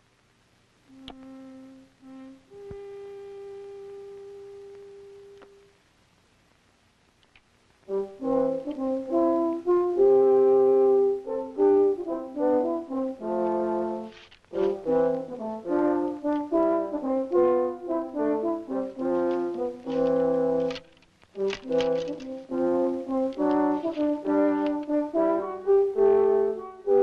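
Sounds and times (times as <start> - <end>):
brass instruments playing slow tune: 0.8 - 5.8, 7.8 - 27.0.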